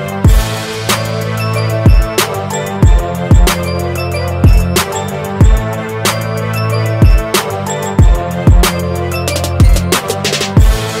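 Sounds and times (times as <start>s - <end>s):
held bass line: 0.0s - 11.0s.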